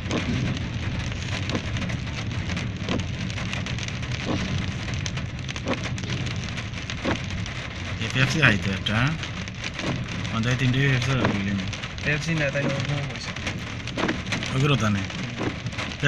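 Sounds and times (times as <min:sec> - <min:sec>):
engine and tyre hum: 0:00.0 - 0:16.0
rain on car roof: 0:00.0 - 0:16.0.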